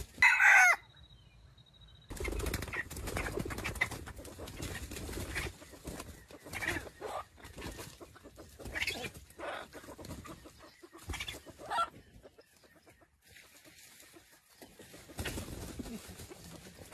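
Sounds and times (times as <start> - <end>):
chicken clucking: 2.3 - 16.9.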